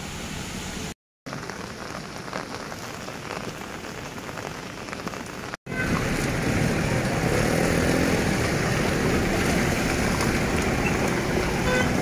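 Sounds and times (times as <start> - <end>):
heavy rain on wet ground: 0.5 - 12.0.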